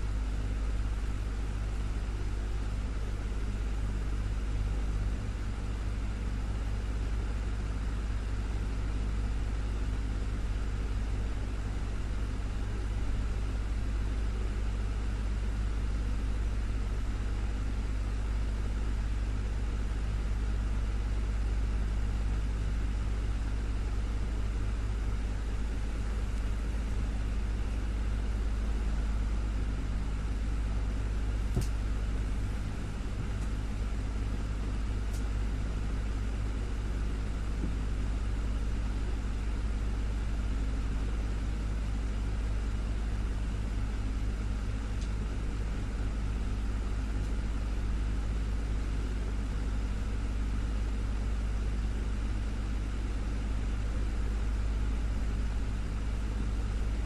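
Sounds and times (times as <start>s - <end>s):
desktop fan whirring: 0.0s - 57.0s.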